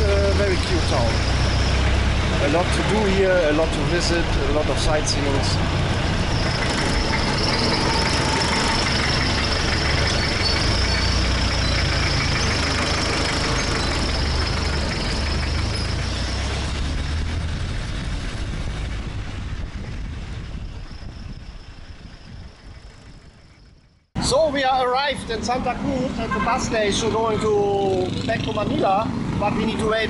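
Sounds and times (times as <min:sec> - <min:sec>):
diesel engine droning: 0:00.0 - 0:30.0
road noise: 0:00.0 - 0:30.0.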